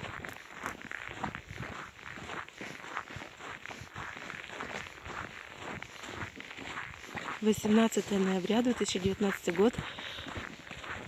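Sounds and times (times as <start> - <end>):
crunching footsteps: 0.0 - 11.0.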